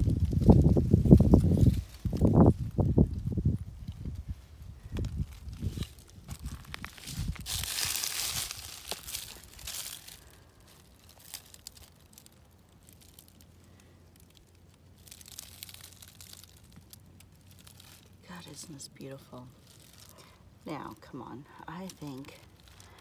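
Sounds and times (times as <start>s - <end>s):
footsteps through dry leaves: 0.0s - 20.7s, 21.8s - 23.0s.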